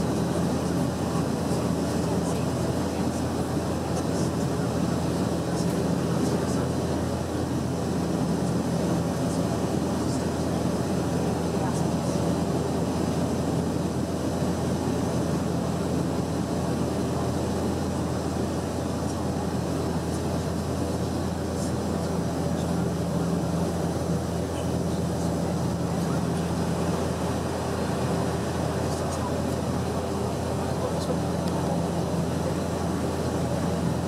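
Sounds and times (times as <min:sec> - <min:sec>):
airplane cabin turboprop drone: 0:00.0 - 0:34.0
propeller tone: 0:00.0 - 0:34.0.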